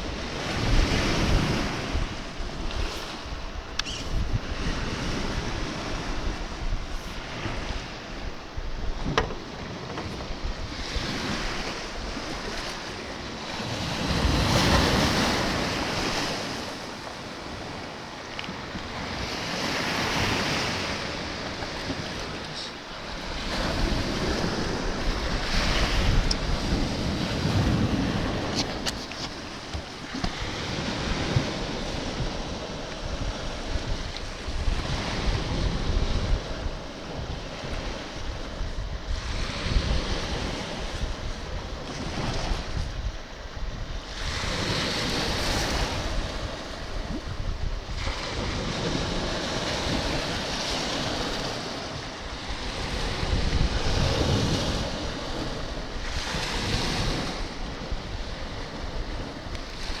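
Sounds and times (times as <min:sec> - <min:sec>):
sea waves washing at shore: 0:00.0 - 1:00.0
wind buffeting microphone: 0:00.0 - 1:00.0.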